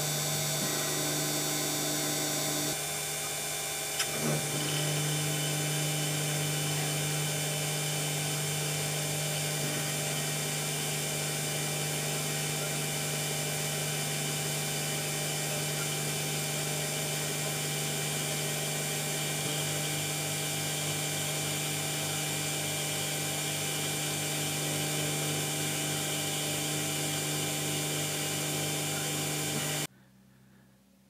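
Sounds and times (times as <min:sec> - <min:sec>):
mill spindle whining: 0:00.0 - 0:29.9.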